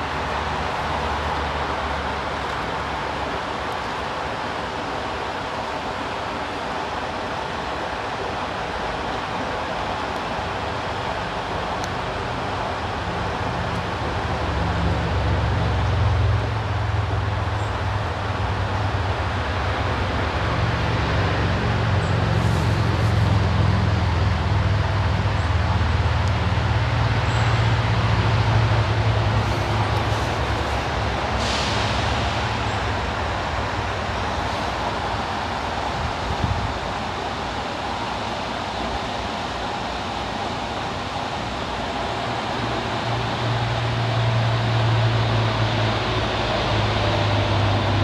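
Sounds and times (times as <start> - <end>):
water rushing below a dam: 0.0 - 48.0.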